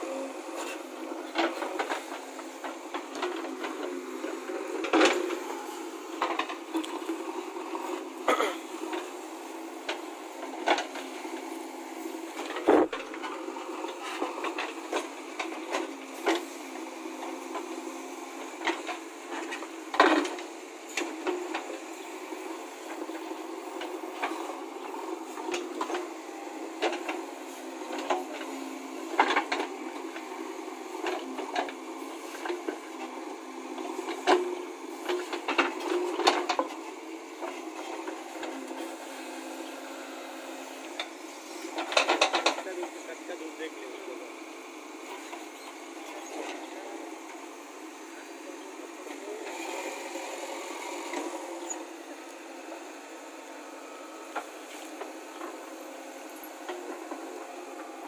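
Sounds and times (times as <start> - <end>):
engine and hydraulic drone: 0.0 - 58.0.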